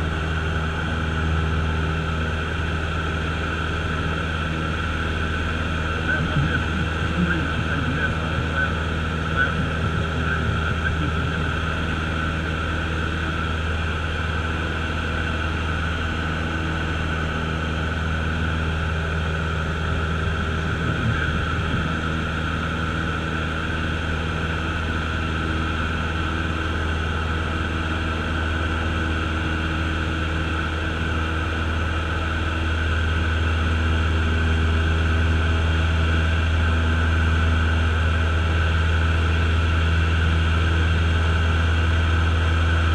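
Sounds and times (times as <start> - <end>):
plane engine drone in cabin: 0.0 - 42.9.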